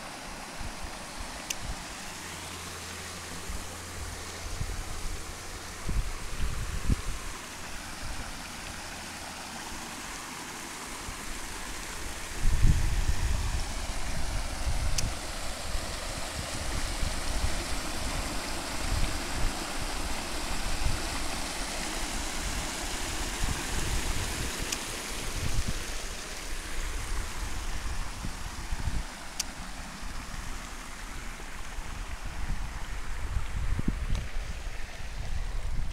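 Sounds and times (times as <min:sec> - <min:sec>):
wind rumbling on microphone: 0:00.0 - 0:08.9, 0:11.0 - 0:35.9
stream rushing over rocks: 0:00.0 - 0:35.9.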